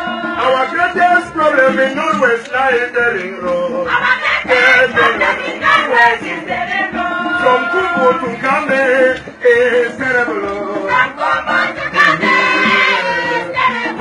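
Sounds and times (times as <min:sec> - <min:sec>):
group singing: 0:00.0 - 0:14.0.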